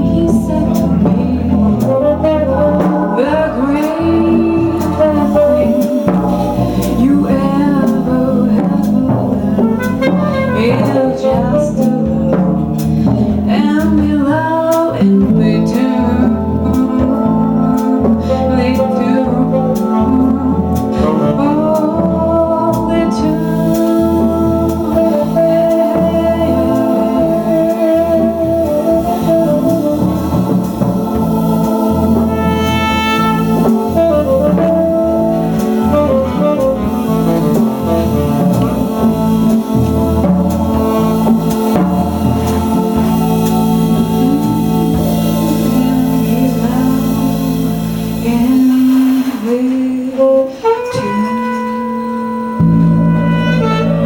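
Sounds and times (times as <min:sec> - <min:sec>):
live jazz band playing: 0:00.0 - 0:54.0.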